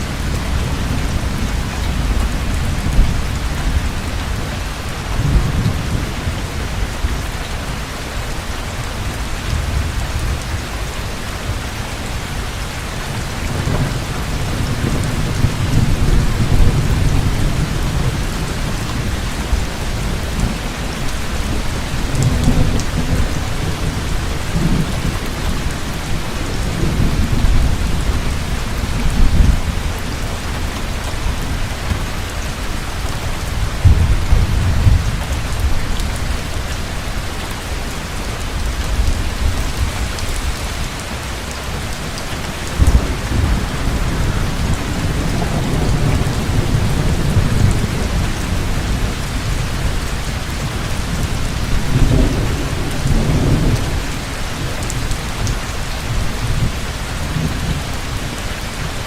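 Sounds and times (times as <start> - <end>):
low rolling thunder: 0.0 - 7.6, 9.0 - 40.7, 41.7 - 58.4
heavy rain: 0.0 - 59.0.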